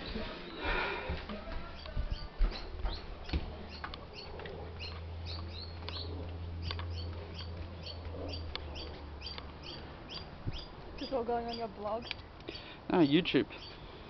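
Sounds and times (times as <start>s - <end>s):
small birds chirping: 1.6s - 14.0s.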